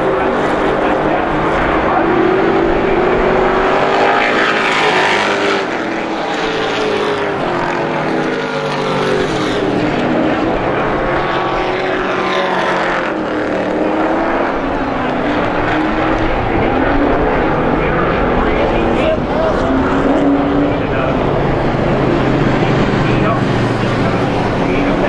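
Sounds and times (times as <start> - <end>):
racing truck engines: 0.0 - 25.0.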